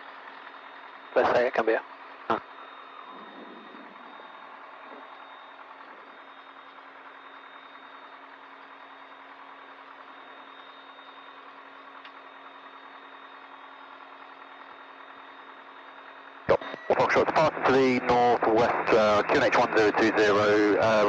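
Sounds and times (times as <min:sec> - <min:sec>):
aircraft engine idling hum: 0:00.0 - 0:21.0.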